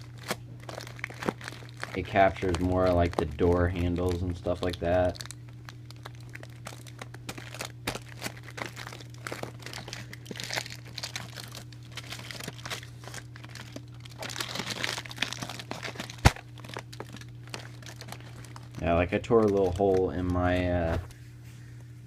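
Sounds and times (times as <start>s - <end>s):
aluminium foil crinkling: 0.0s - 20.9s
steady low hum: 0.0s - 22.0s.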